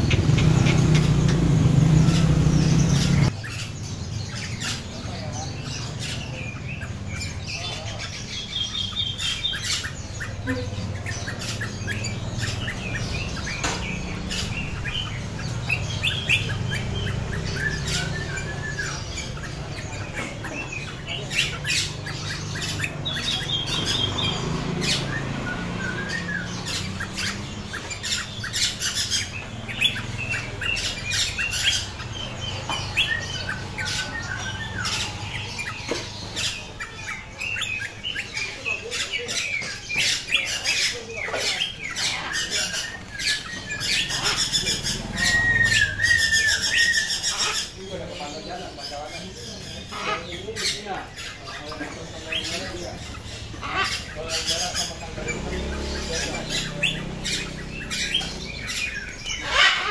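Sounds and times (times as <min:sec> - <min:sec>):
caged birds chirping and squawking: 0:00.0 - 0:59.9.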